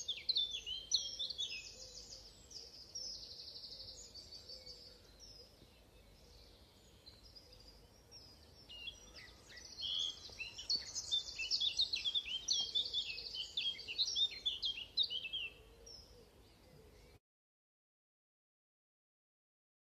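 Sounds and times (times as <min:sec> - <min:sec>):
distant birdsong: 0:00.0 - 0:17.2.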